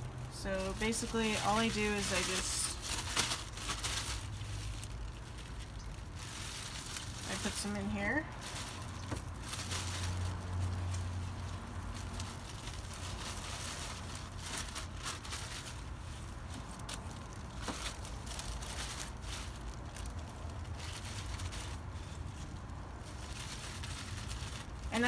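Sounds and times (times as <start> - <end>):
leaves rustling: 0.0 - 25.0
low steady rumble: 0.0 - 25.0
plastic bag crinkling: 0.0 - 25.0.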